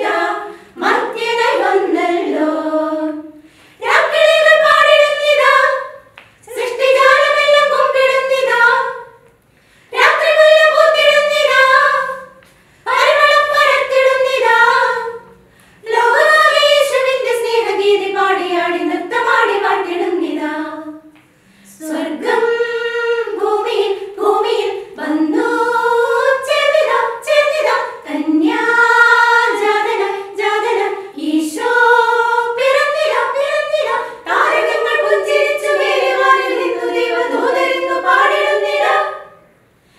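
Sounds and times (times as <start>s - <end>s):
women's choir singing unaccompanied: 0.0s - 39.7s.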